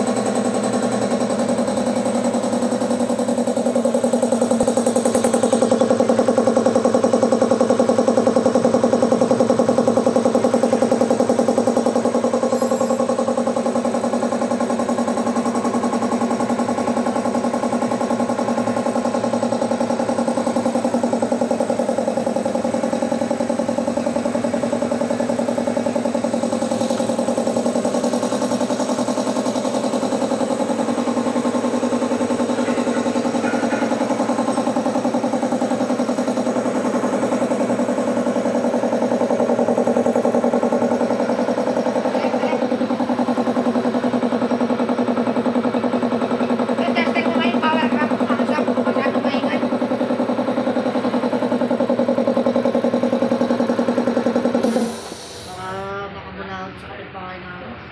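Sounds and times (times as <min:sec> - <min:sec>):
air compressor running: 0:00.0 - 0:57.9.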